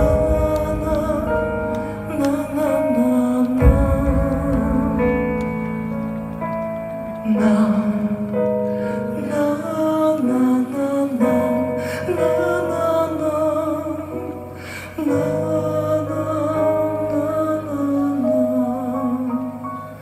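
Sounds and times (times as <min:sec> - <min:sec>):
person singing long notes: 0:00.0 - 0:06.1, 0:07.1 - 0:20.0.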